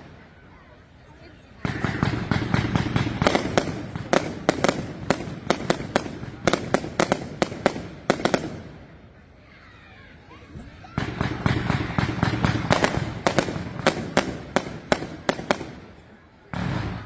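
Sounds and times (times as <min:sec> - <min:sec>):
fireworks bangs: 0:01.6 - 0:09.0, 0:10.6 - 0:17.0.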